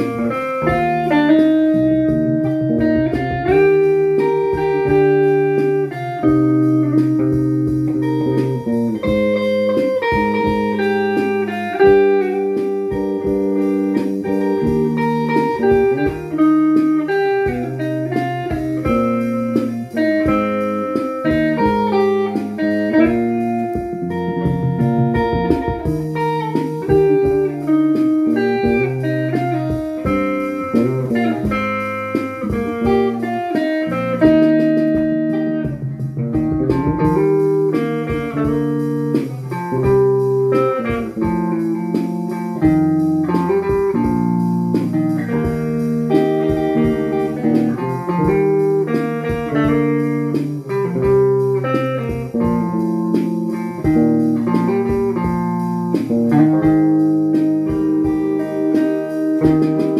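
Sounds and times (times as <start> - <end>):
bass line: 0.0 - 16.8, 17.4 - 59.9
plucked guitar melody: 0.0 - 59.9.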